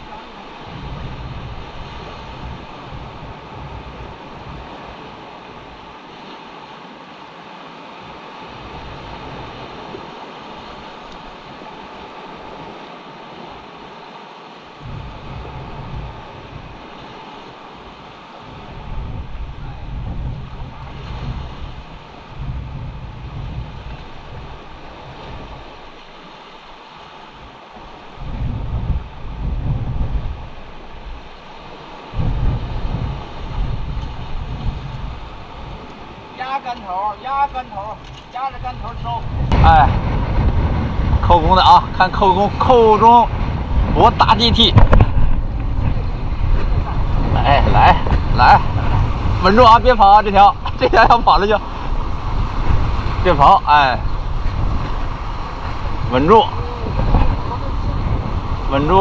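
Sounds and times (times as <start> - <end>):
surf washing over rocky shore: 0.0 - 59.0
wind gusting on microphone: 0.0 - 59.0.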